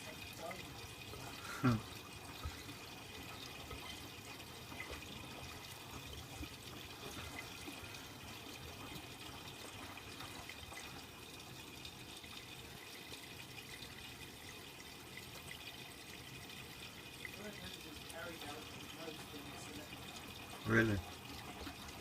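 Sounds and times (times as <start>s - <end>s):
water running into washing machine: 0.0s - 22.0s.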